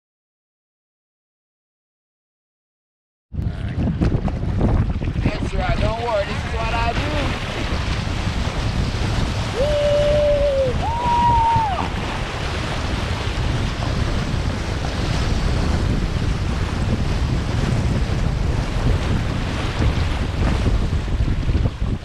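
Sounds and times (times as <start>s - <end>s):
wind buffeting microphone: 3.3s - 22.0s
horses splashing through water: 3.8s - 22.0s.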